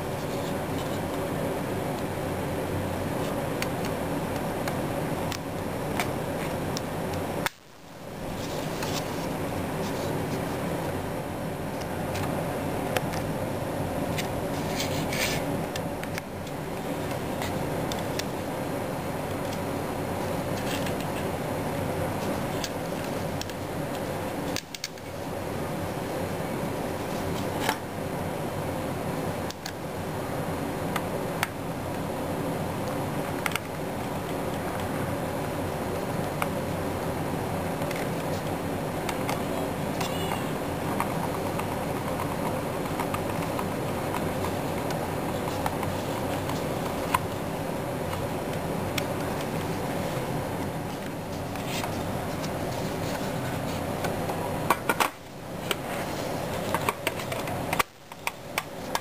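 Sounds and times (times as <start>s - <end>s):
background hum: 0.0s - 59.0s.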